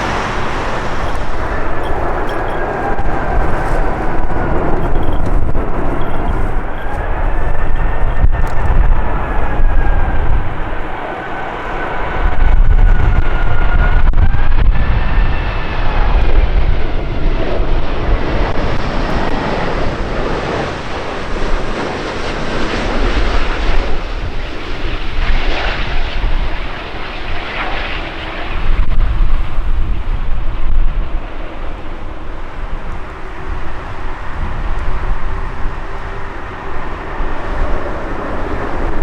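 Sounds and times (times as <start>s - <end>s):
jet engine whine and rumble: 0.0s - 39.0s
wind gusts on microphone: 0.0s - 39.0s.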